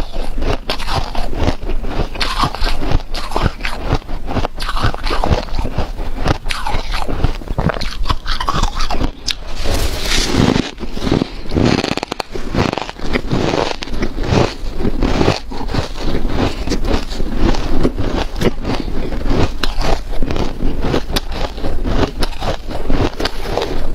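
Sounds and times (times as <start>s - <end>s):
chewing crunchy ice: 0.0s - 23.9s.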